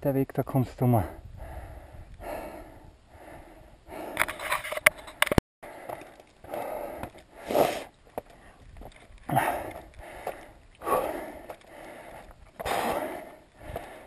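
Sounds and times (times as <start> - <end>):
heavy breathing: 1.0 - 4.6, 5.6 - 14.0.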